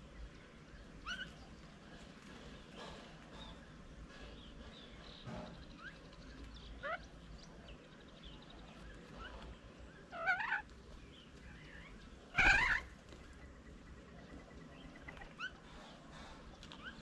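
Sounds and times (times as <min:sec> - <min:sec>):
birds chirping and whistling: 0:00.6 - 0:17.0
harsh wavering bird calls: 0:00.8 - 0:17.0.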